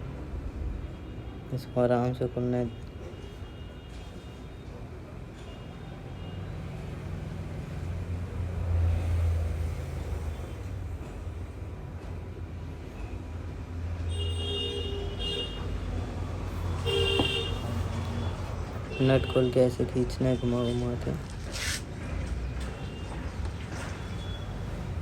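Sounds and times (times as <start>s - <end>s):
road traffic rumble: 5.0s - 25.0s.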